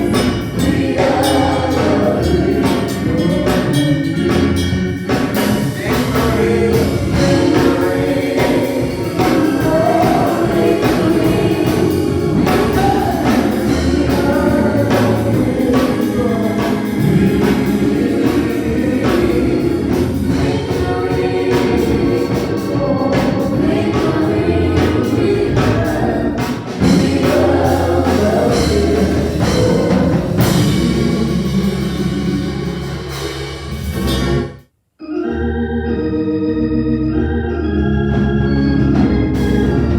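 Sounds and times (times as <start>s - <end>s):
gospel choir singing: 0.0s - 34.4s, 37.1s - 39.9s.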